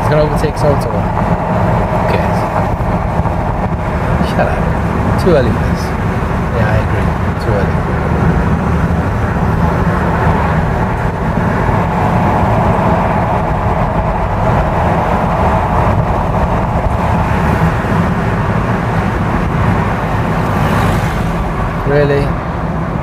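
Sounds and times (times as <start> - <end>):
car road noise rumble: 0.0 - 23.0
wind rushing through open window: 0.0 - 23.0.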